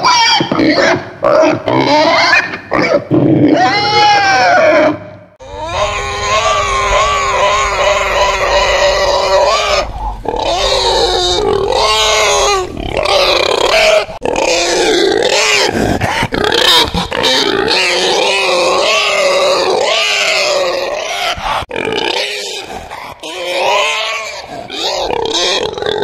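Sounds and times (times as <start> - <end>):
pig grunting: 0.0 - 26.0.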